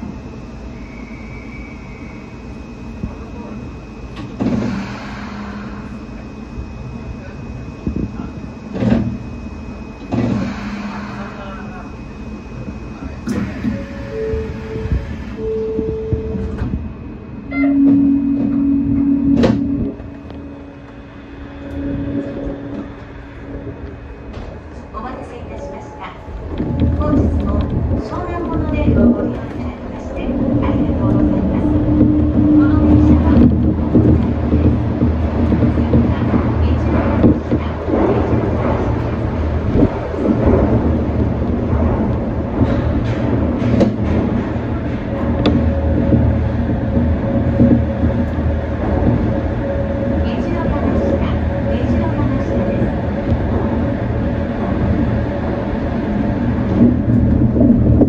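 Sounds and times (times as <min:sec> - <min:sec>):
monorail car hum and rumble: 0:00.0 - 0:58.0
steady low tone: 0:00.0 - 0:58.0.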